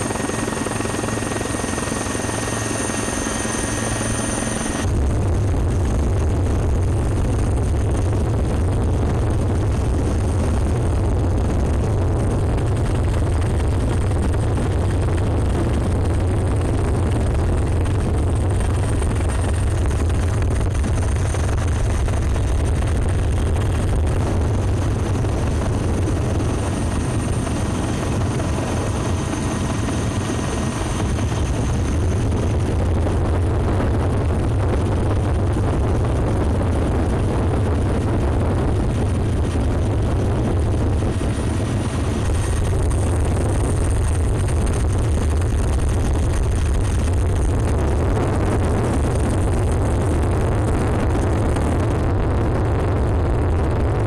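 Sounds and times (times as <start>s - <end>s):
helicopter deep drone: 0.0s - 54.0s.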